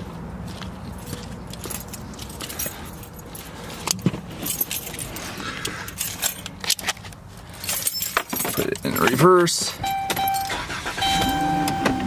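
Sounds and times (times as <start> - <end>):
car keys jangling: 0.9 - 12.0.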